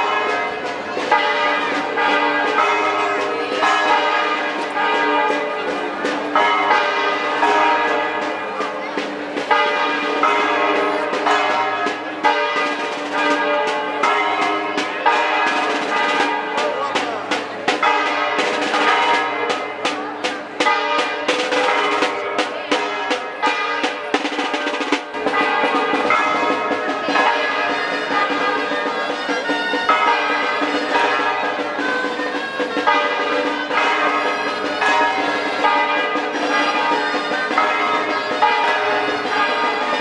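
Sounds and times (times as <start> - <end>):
church bells pealing: 0.0 - 40.0
rapid drumming: 0.0 - 40.0.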